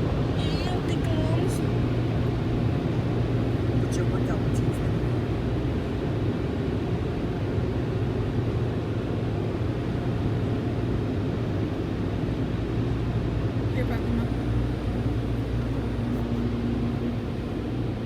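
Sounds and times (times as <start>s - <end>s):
car wash machinery rumble and hiss: 0.0s - 18.0s.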